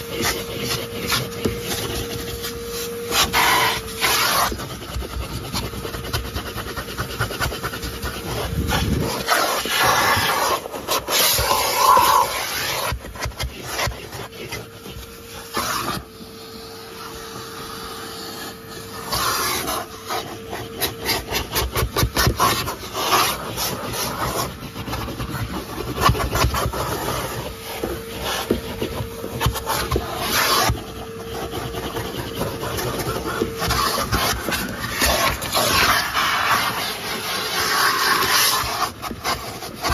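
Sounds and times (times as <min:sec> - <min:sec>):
vacuum cleaner whine: 0:00.0 - 0:39.9
vacuum nozzle scraping: 0:00.0 - 0:39.9.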